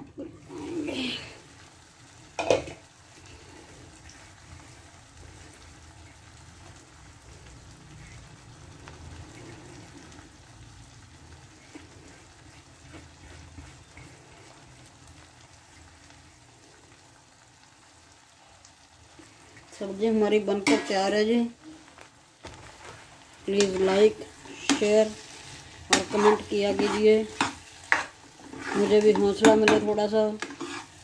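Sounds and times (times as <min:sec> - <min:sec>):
curry simmering and sizzling: 0:00.0 - 0:31.0.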